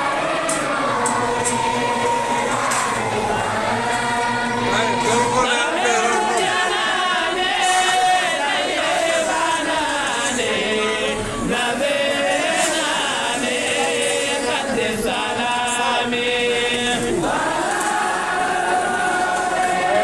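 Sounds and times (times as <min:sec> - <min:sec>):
group of voices chanting: 0:00.0 - 0:20.0.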